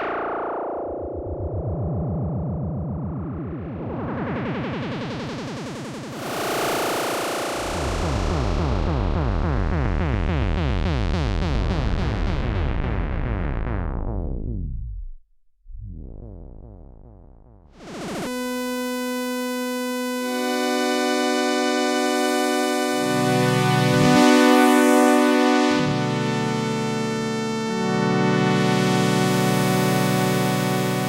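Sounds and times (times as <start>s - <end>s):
synthesizer sweep and chord: 0.0s - 31.0s.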